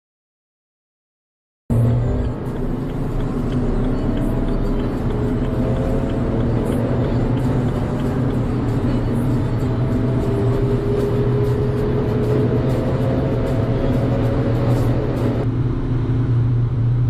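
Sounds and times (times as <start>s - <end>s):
car engine accelerating: 1.7s - 17.0s.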